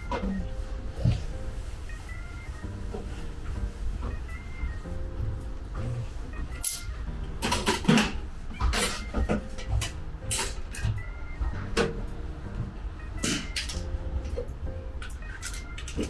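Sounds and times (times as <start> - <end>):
quiet background music: 0.0 - 16.0.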